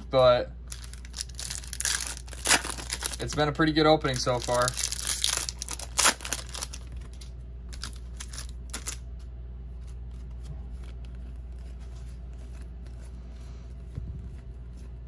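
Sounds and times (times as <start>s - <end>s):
steady low hum: 0.0s - 15.0s
trading cards rustling and flicking: 0.7s - 15.0s.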